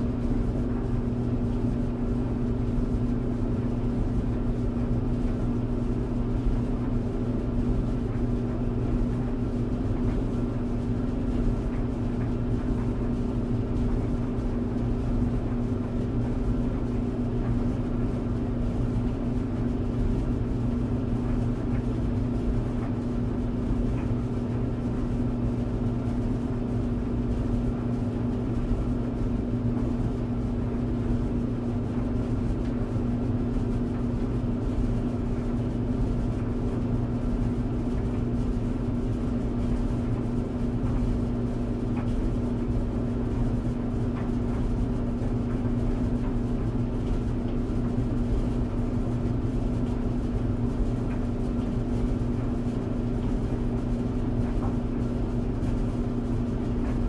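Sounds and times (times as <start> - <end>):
tumble dryer running: 0.0 - 57.0.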